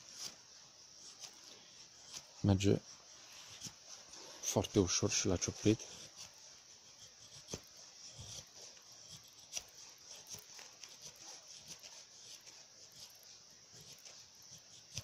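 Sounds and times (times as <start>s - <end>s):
knife scraping wood: 0.0s - 15.0s.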